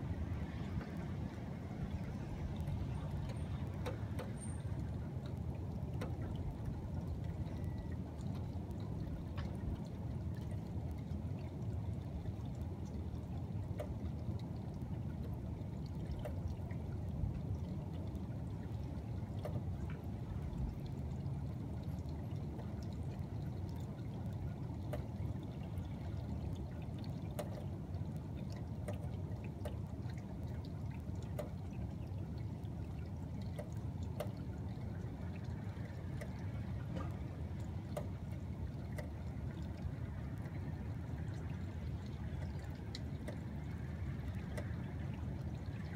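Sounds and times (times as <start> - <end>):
running water: 0.0 - 45.9.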